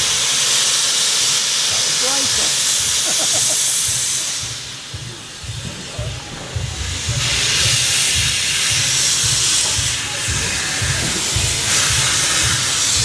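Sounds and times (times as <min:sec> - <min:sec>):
locomotive hissing steam: 0:00.0 - 0:13.0.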